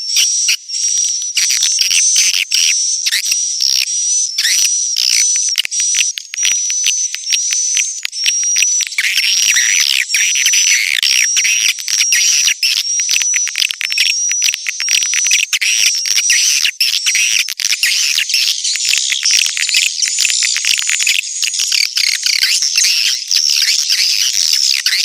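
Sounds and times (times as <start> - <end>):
swiftlets twittering and chirping: 0.1 - 25.0.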